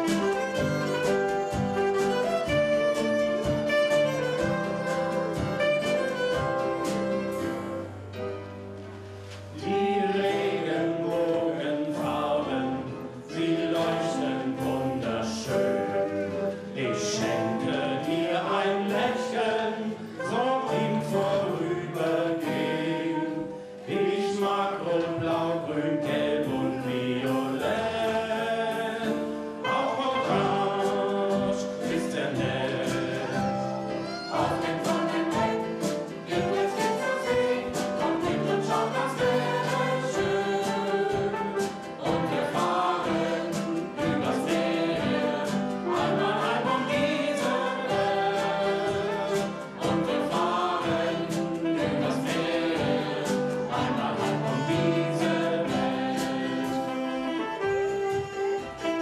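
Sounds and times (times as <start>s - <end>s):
group singing with accompaniment: 0.0s - 8.0s, 9.2s - 59.0s.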